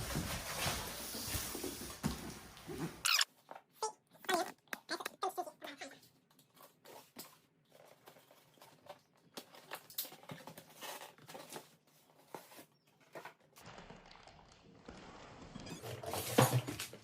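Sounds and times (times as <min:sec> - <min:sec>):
packaging rustling and scraping: 0:00.0 - 0:03.0, 0:06.4 - 0:17.0.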